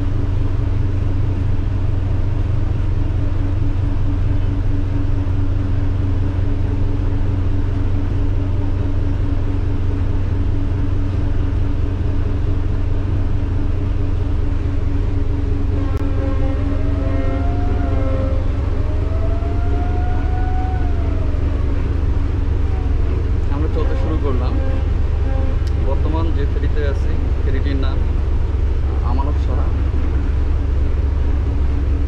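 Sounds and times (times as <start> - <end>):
diesel engines droning: 0.0 - 32.0.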